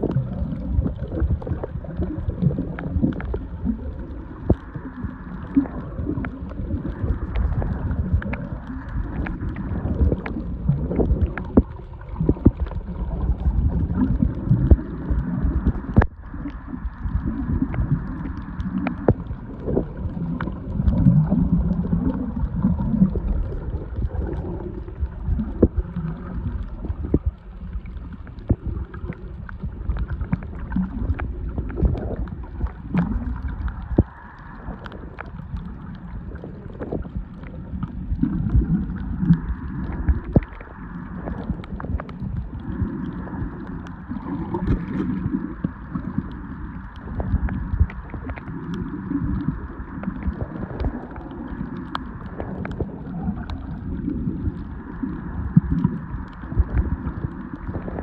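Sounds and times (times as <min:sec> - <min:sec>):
sharp underwater clicks: 0:00.0 - 0:58.0
underwater rumble of moving water: 0:00.0 - 0:58.0.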